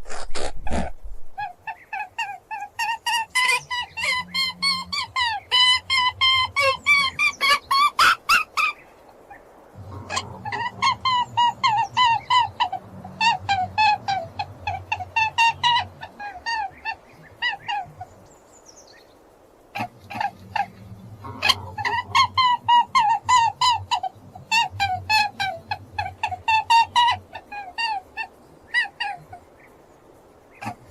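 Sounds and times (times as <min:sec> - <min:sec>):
fowl honking: 0:01.4 - 0:18.2, 0:19.7 - 0:29.8, 0:30.5 - 0:30.9.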